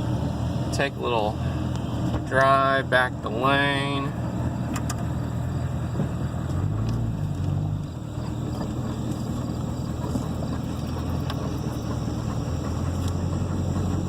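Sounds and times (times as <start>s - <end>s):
engine hum inside vehicle: 0.0s - 14.0s.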